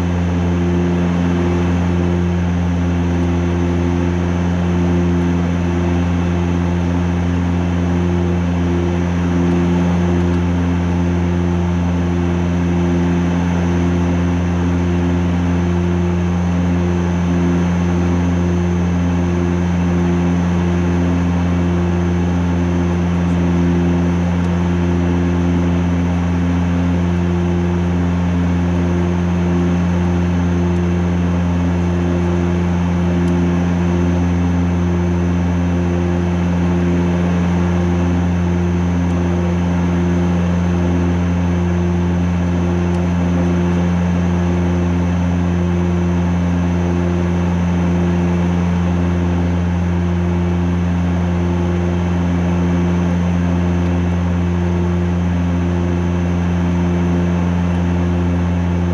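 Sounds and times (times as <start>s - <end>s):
turboprop engines droning: 0.0s - 58.9s.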